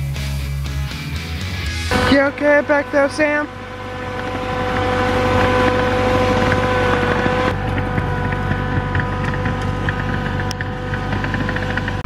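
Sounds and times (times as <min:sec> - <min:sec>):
steady tone: 0:01.8 - 0:12.0
tractor engine under load: 0:01.9 - 0:12.0.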